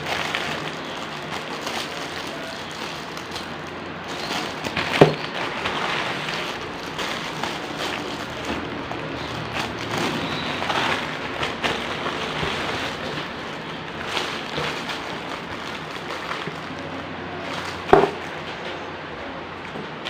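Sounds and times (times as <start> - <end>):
packaging rustling and crinkling: 0.0 - 18.8.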